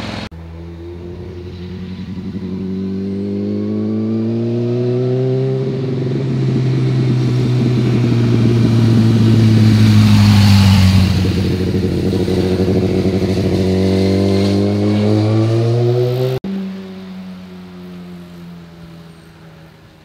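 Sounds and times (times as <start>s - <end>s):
motorcycle engine passing by: 0.0s - 19.7s.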